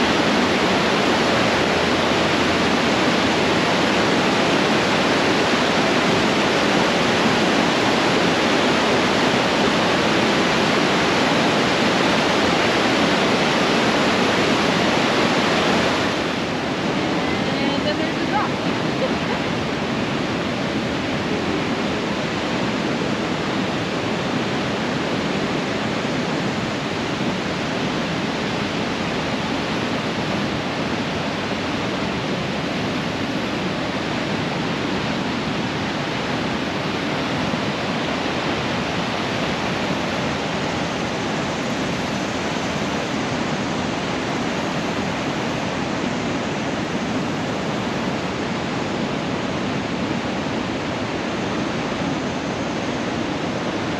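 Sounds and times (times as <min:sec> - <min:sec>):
whitewater rapids rushing: 0:00.0 - 0:53.9.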